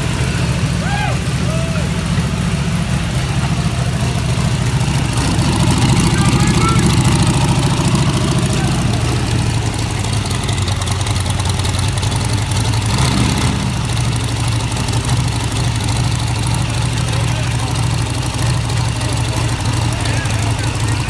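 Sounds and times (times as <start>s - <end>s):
aircraft engine idling: 0.0s - 21.0s.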